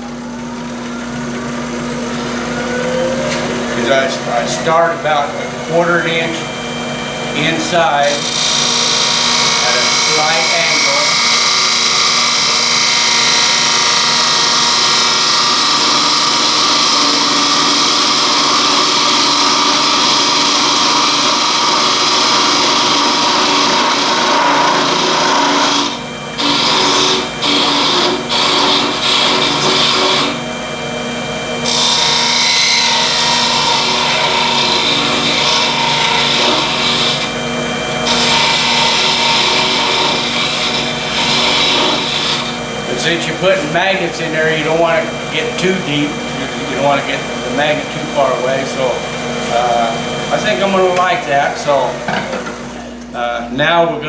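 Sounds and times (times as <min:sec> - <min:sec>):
tool scraping spinning wood: 0:00.0 - 0:30.4, 0:31.6 - 0:53.9
lathe humming: 0:00.0 - 0:54.0.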